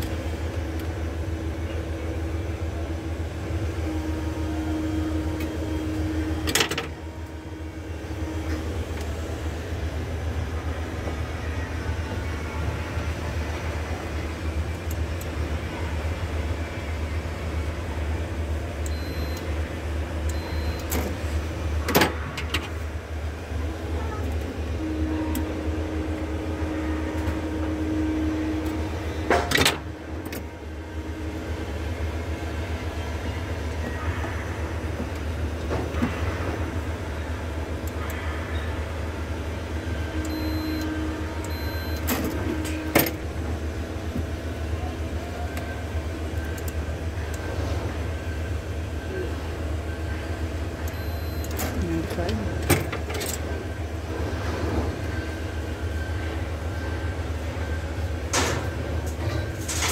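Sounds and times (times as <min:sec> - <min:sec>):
transformer hum: 0:00.0 - 0:59.9.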